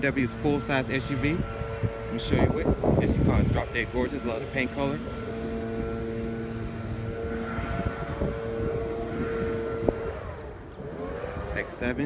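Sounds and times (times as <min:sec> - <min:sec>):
low rumble: 0:00.0 - 0:12.0
steady mechanical hum: 0:00.0 - 0:12.0.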